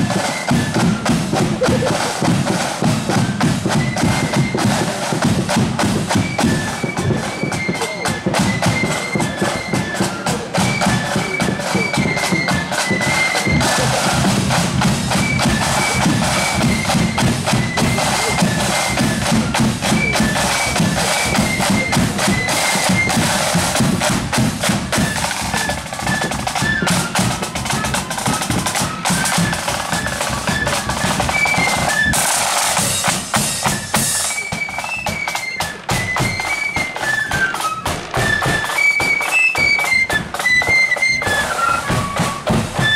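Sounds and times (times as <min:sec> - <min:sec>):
side drums and bass drum: 0:00.0 - 0:36.6
flutes playing melody: 0:00.0 - 0:42.9.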